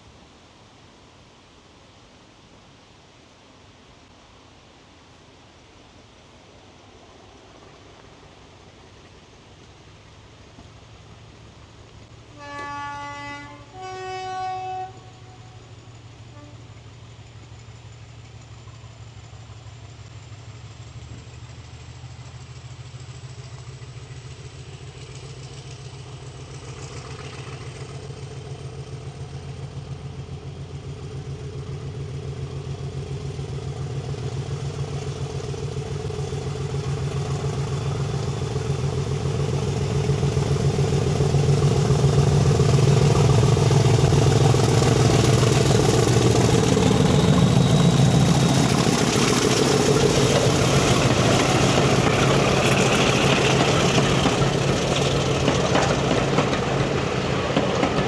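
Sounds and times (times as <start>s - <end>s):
diesel locomotive engine under power: 9.5s - 58.0s.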